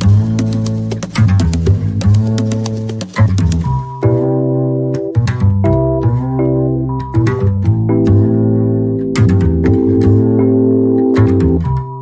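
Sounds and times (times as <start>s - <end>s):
instrumental music with bass and chords: 0.0s - 12.0s.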